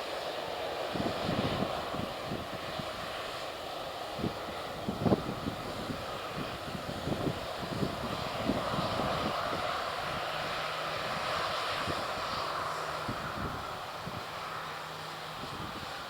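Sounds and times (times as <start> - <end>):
jet engines running: 0.0 - 16.0
wind buffeting microphone: 0.8 - 16.0.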